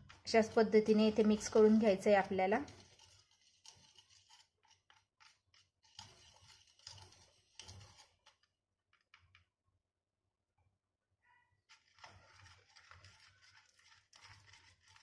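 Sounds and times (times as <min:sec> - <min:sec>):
spoon scraping paste in bowl: 0:00.0 - 0:09.2, 0:11.6 - 0:15.0.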